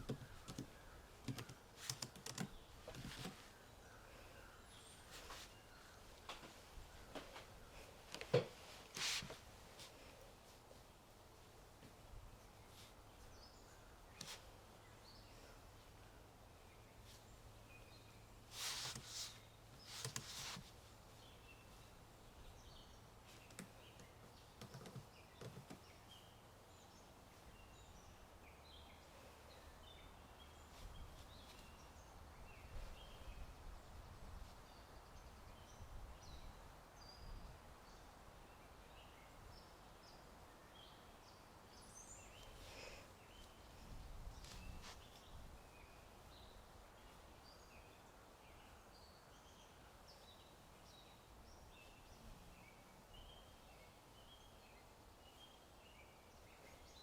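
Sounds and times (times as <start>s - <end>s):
low steady wind: 0.0s - 57.0s
small birds chirping: 0.0s - 57.0s.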